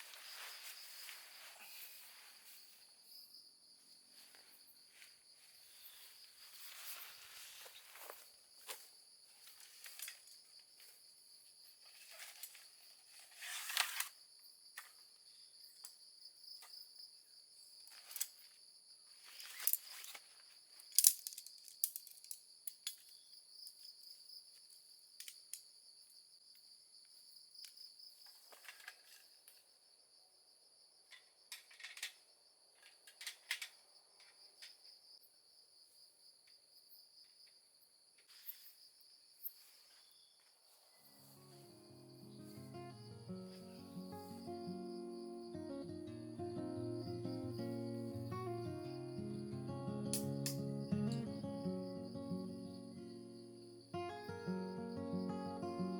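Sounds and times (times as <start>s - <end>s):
crickets trilling: 0.0s - 31.5s, 33.7s - 55.9s.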